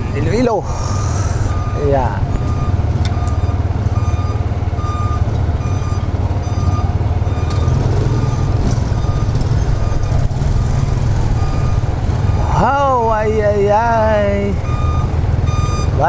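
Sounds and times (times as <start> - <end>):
reversing alarm beeping: 0.8 - 12.5, 14.6 - 16.0.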